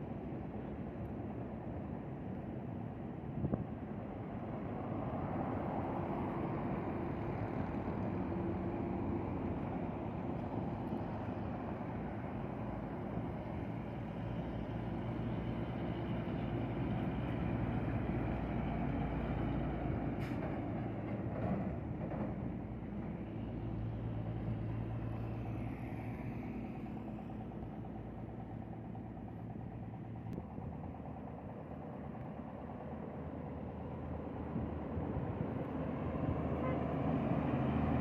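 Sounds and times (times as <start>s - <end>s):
heavy highway traffic passing: 0.0s - 38.0s.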